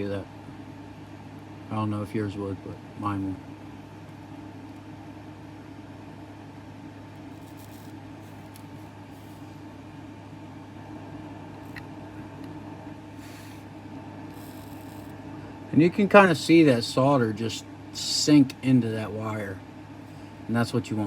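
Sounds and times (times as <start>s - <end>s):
mechanical hum of machinery: 0.0s - 21.0s.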